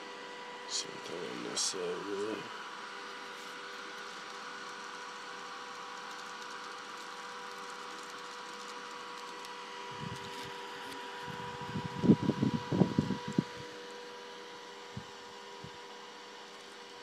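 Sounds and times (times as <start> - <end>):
computer fans whirring: 0.0 - 17.0.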